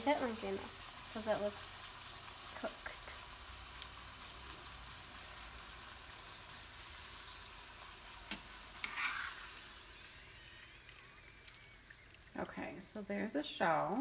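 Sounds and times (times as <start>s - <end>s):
tortilla sizzling in oil: 0.0s - 13.4s.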